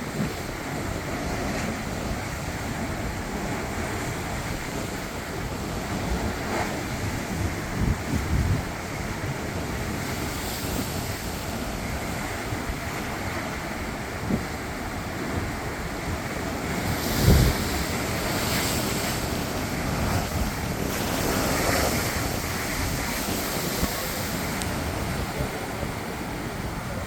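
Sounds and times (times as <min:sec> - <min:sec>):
ocean waves washing: 0:00.0 - 0:27.0
wind buffeting microphone: 0:00.0 - 0:27.0.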